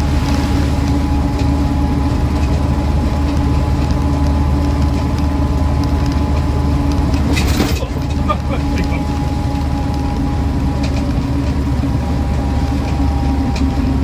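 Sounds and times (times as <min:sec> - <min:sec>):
car engine droning: 0:00.0 - 0:14.0
drivetrain whine: 0:00.0 - 0:14.0.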